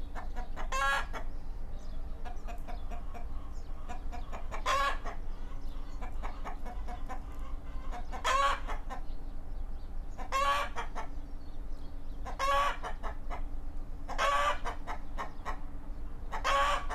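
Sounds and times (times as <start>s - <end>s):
chicken calls: 0.0s - 1.4s, 2.0s - 9.2s, 10.1s - 11.3s, 12.2s - 16.9s
chickens clucking softly: 0.0s - 9.3s, 10.1s - 16.9s
steady low hum: 0.0s - 16.9s.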